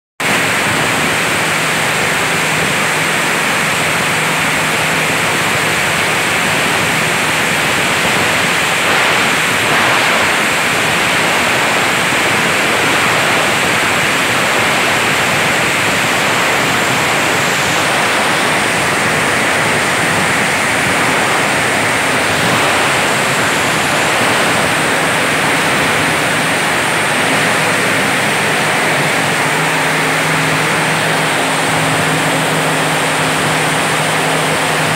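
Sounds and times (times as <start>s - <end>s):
plastic grinding machine running: 2.5s - 34.9s.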